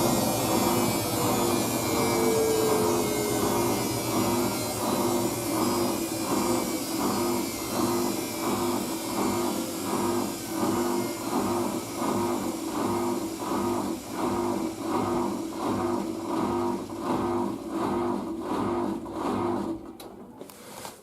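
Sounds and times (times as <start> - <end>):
washing machine spinning: 0.0 - 21.0.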